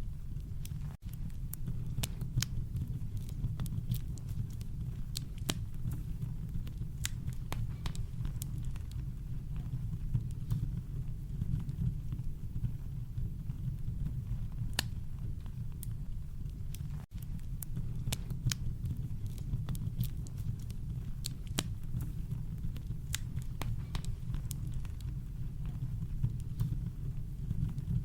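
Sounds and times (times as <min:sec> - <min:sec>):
campfire crackling and popping: 0:00.1 - 0:28.0.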